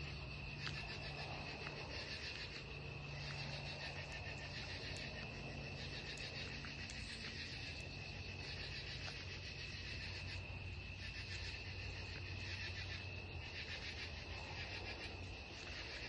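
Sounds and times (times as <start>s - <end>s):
faint low hum: 0.0s - 16.0s
insects trilling: 0.0s - 16.0s.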